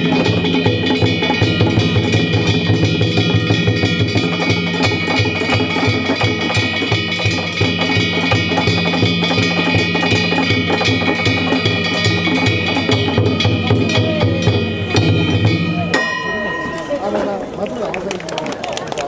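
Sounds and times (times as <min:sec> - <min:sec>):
fast drum beat: 0:00.0 - 0:16.1
ringing gong tones: 0:00.0 - 0:17.6.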